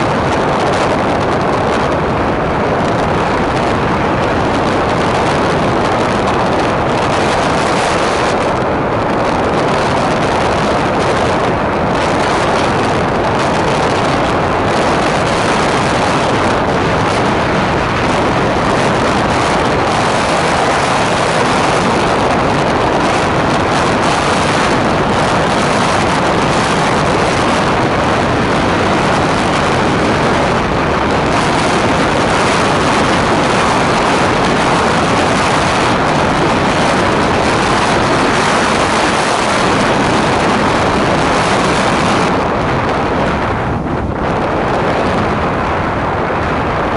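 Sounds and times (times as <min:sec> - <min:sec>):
blizzard wind rushing: 0:00.0 - 0:46.9.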